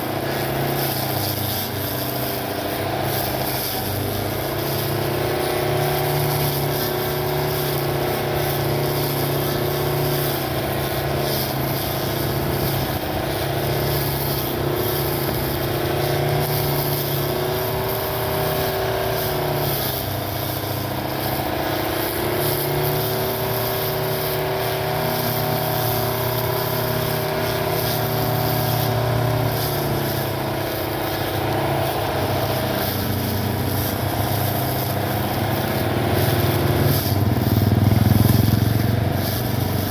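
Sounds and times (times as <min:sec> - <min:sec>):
electric lawn mower whine: 0:00.0 - 0:39.9.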